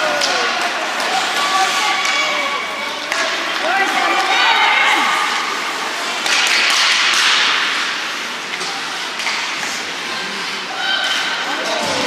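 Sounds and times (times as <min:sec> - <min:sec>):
hockey sticks and puck on ice: 0:00.0 - 0:12.0.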